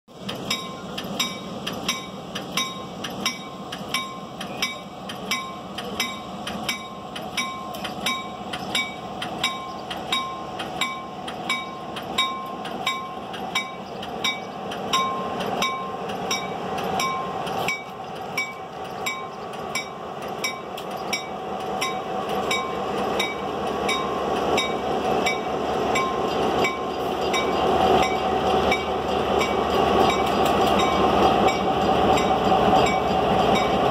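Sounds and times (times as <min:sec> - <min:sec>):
diesel engine rumble: 0:00.1 - 0:33.9
train wheels rumbling: 0:00.1 - 0:33.9
locomotive bell ringing: 0:00.3 - 0:33.9.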